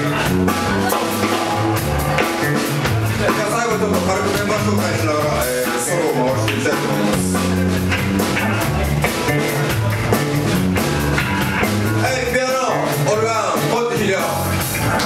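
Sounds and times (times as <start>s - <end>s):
funk band playing: 0.0s - 15.0s.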